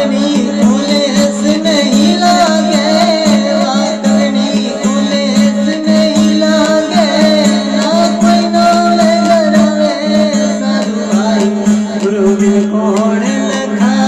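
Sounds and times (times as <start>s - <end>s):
devotional folk music: 0.0s - 14.0s
held melody line: 0.0s - 14.0s
percussion strokes: 0.0s - 14.0s.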